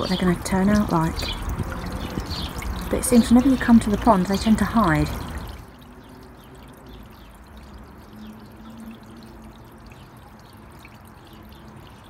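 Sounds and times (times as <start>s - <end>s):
water trickling into pond: 0.0s - 12.0s.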